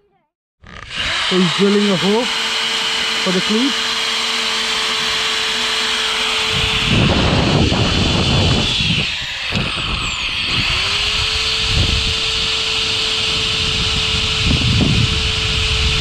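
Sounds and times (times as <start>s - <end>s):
power drill boring: 0.6s - 16.0s.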